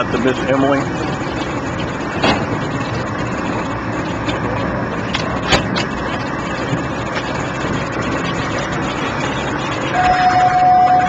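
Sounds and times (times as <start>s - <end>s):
outboard engines idling: 0.0s - 11.0s.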